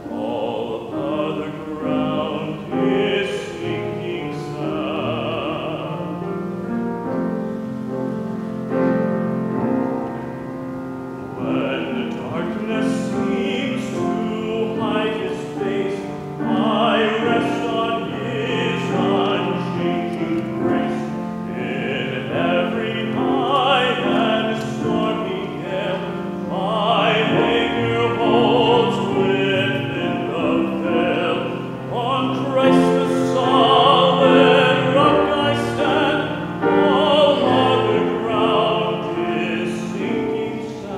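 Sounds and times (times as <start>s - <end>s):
man singing a hymn: 0.0s - 7.9s, 11.3s - 40.9s
piano accompaniment: 0.0s - 40.9s.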